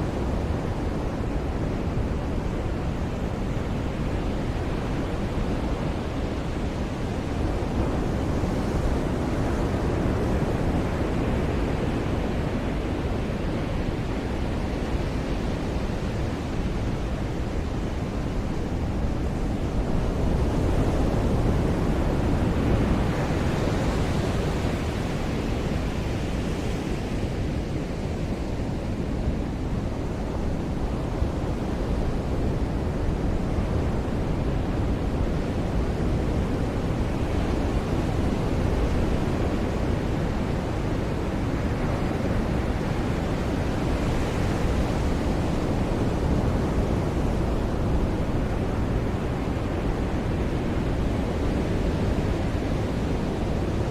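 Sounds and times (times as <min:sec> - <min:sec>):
ocean surf breaking on beach: 0:00.2 - 0:53.9.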